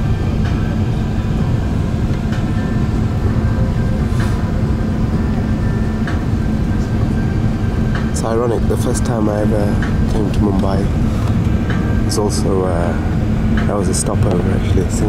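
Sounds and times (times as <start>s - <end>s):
aircraft cabin engine rumble: 0.0s - 15.0s
constant hum: 0.0s - 15.0s.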